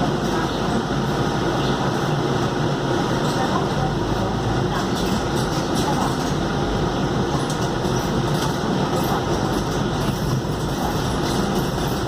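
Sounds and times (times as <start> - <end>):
bus body rumble and rattle: 0.0 - 12.0
bus engine running: 0.0 - 12.0.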